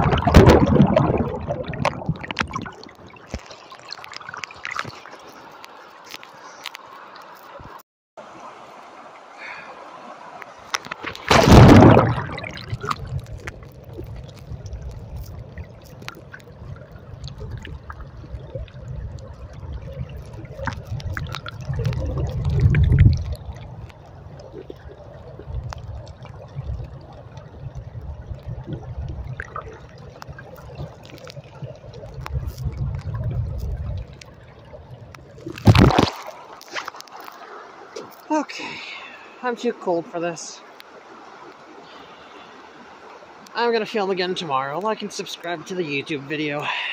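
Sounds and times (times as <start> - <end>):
underwater river rumbling: 0.0 - 46.9.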